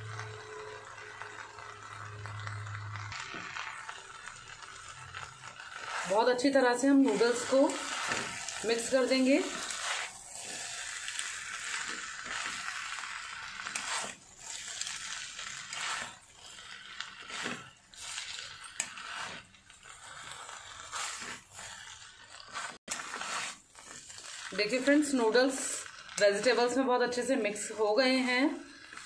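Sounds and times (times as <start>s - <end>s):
noodles sizzling in a pan: 0.0s - 29.0s.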